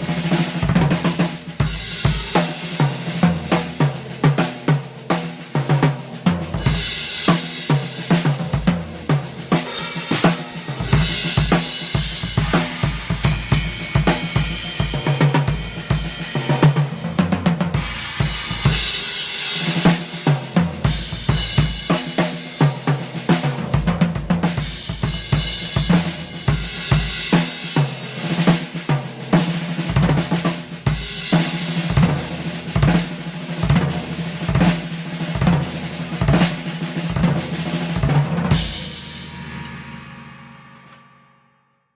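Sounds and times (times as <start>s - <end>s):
drum kit beat: 0.0s - 41.0s.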